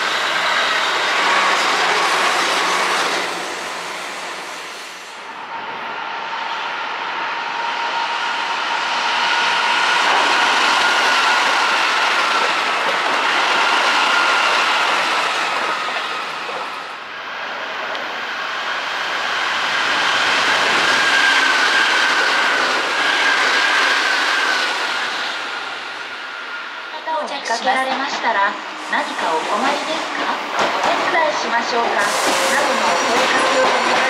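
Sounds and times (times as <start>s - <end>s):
train wheel and rail rumble: 0.0s - 34.0s.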